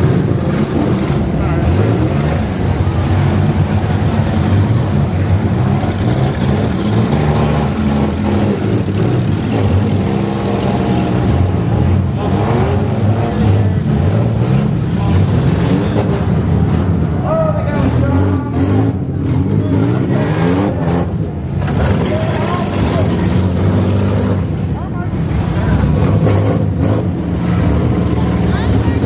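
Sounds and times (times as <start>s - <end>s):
minivan engines revving: 0.0s - 29.0s.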